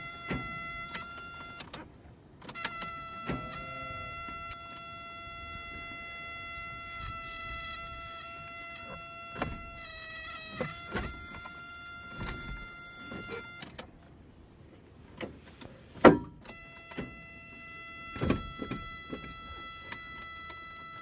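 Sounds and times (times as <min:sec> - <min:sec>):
truck cab warning buzzer: 0:00.0 - 0:14.0, 0:16.0 - 0:21.0.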